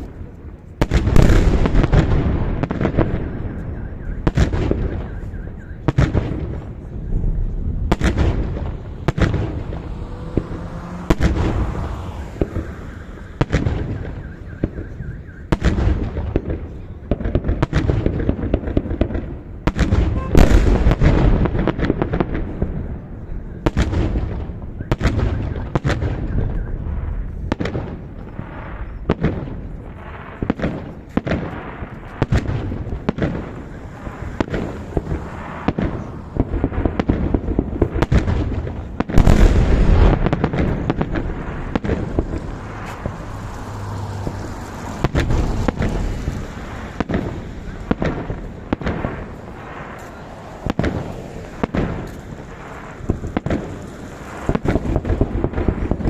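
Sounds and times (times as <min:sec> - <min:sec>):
fireworks bursting with echoes: 0:00.0 - 0:56.0.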